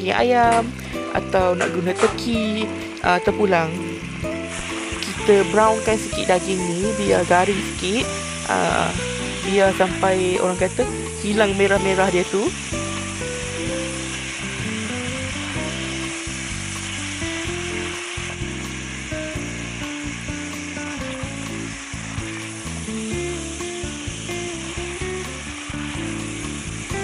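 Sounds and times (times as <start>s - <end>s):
meat sizzling in a pot: 0.0s - 27.0s.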